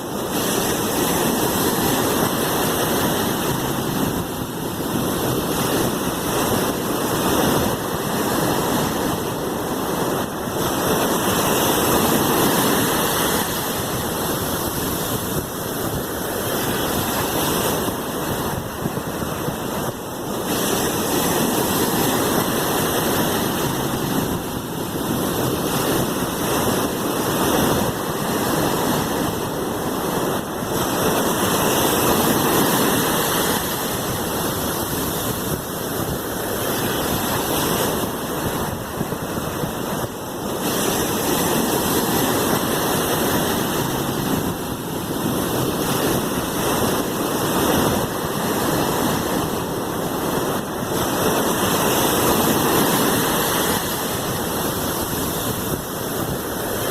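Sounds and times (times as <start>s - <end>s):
sea waves washing: 0.0s - 56.9s.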